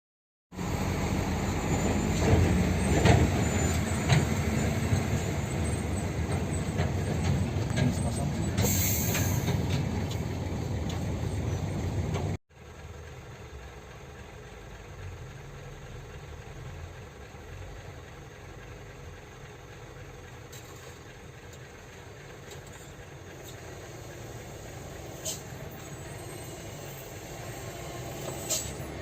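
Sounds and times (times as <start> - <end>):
diesel truck engine rumbling: 0.5 - 29.0.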